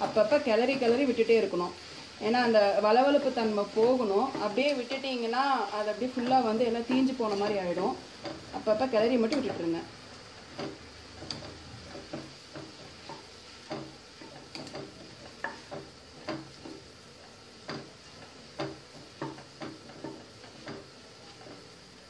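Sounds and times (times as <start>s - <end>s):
faint sizzle: 0.0s - 22.0s.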